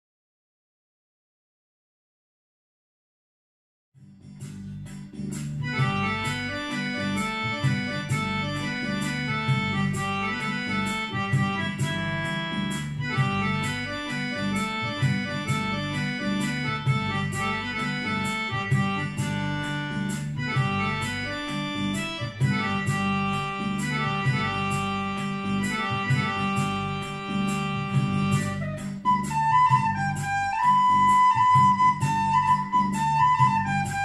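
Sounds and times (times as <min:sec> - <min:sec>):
electronic drum beat: 0:04.4 - 0:34.0
keyboard playing slow melody: 0:04.4 - 0:34.0.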